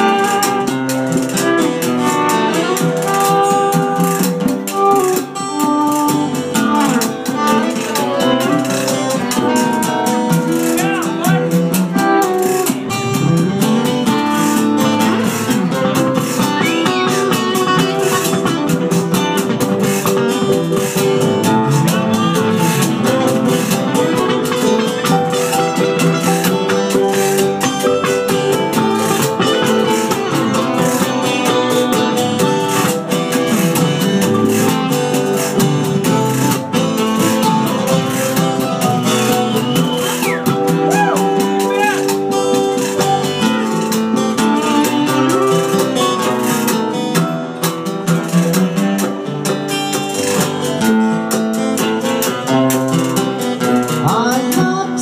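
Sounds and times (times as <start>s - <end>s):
keyboard playing: 0.0s - 48.1s
guitars strumming: 0.0s - 55.0s.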